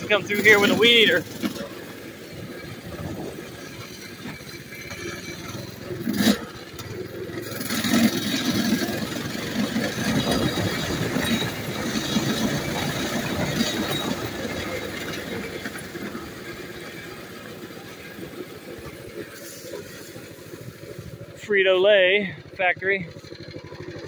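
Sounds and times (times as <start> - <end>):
mini bike engine running: 0.0 - 24.0.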